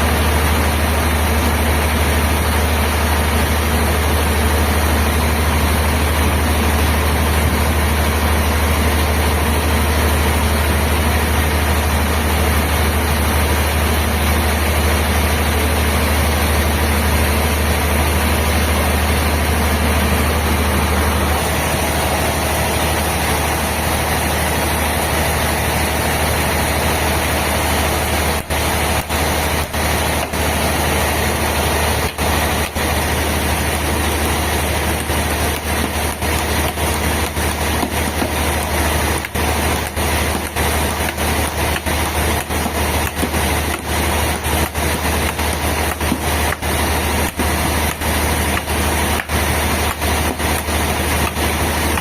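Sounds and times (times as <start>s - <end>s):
sawmill machinery droning: 0.0s - 52.0s.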